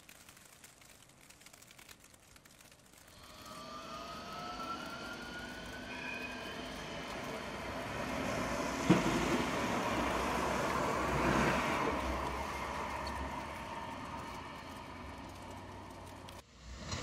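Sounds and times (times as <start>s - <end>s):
tram drive whine: 2.9s - 17.0s
tram wheels rumbling on rail: 2.9s - 17.0s.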